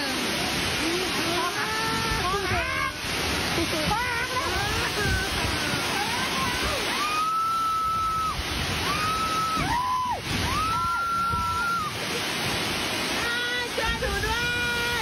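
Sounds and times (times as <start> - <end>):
driving rain: 0.0 - 15.0
storm wind: 0.0 - 15.0.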